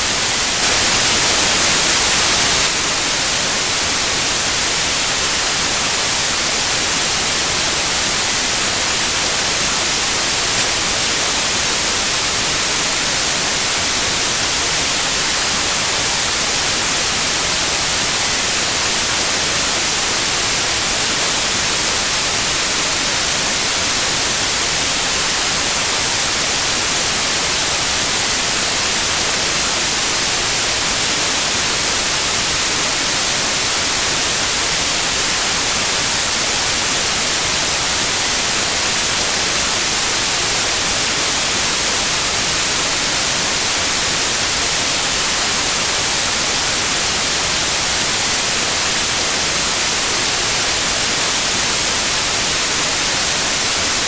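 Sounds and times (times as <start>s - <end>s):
high-pitched pure tone: 0.0s - 54.0s
white noise hissing: 0.0s - 54.0s.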